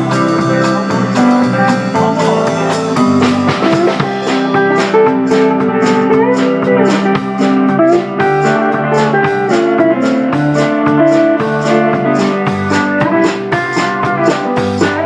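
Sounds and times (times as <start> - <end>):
guitar melody with bending notes: 0.0 - 15.0
steady drum beat: 0.0 - 15.0.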